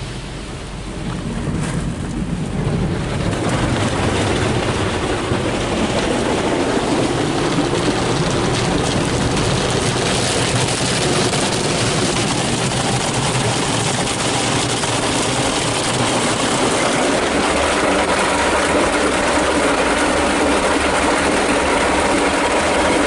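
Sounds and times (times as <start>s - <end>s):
car wash water and machinery rushing: 0.0s - 23.0s.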